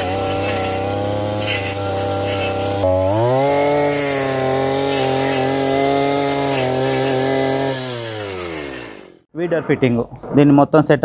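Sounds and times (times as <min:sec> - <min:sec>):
blade cutting grass: 0:00.0 - 0:09.3
brush cutter engine revving: 0:00.0 - 0:09.3.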